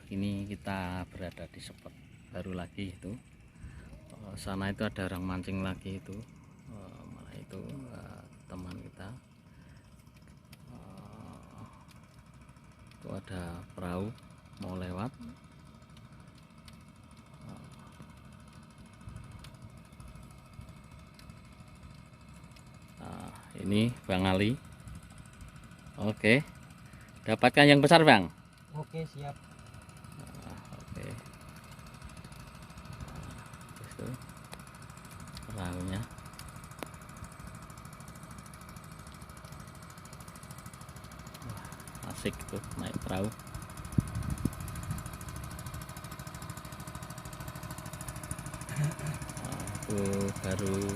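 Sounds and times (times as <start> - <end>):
small boat motor chugging: 0.0 - 50.9.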